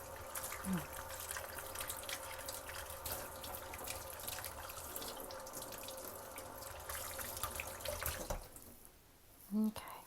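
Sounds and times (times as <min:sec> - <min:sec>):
tap water running into sink: 0:00.0 - 0:08.8.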